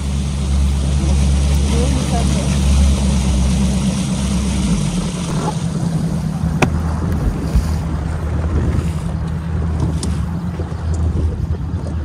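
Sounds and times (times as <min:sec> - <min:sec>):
outboard engine hum: 0:00.0 - 0:12.0
water noise: 0:00.0 - 0:12.0
wind buffeting microphone: 0:00.0 - 0:12.0.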